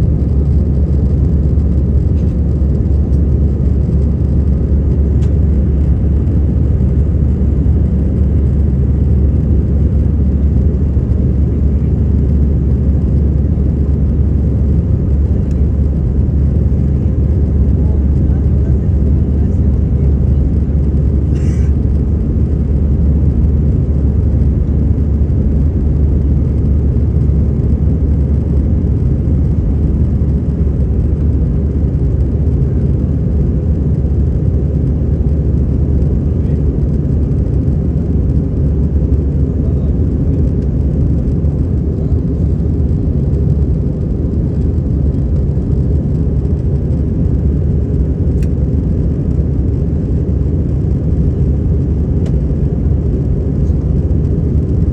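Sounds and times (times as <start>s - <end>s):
airliner cabin engine roar: 0.0s - 54.9s.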